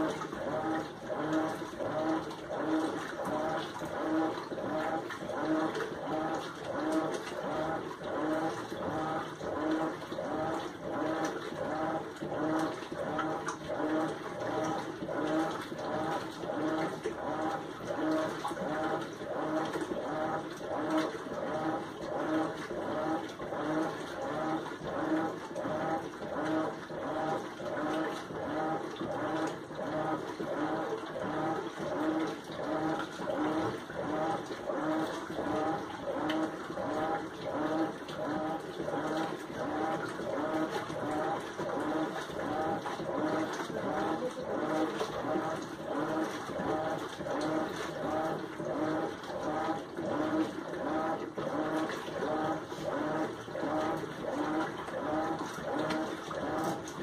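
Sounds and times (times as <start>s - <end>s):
washing machine agitating: 0.0s - 57.0s
water sloshing: 0.0s - 57.0s.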